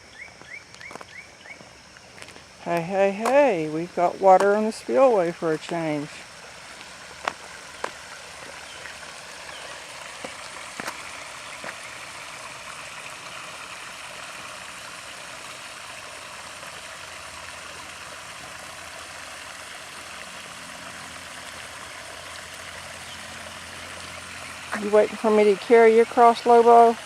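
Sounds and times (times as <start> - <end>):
water flowing over spillway: 1.6 - 27.0.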